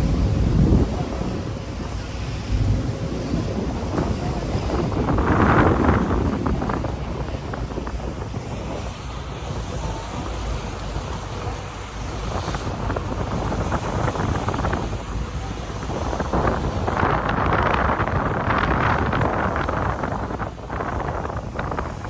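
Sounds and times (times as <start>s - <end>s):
ferry engine rumble: 0.0s - 22.0s
water rushing: 0.0s - 22.0s
wind buffeting microphone: 0.0s - 22.0s.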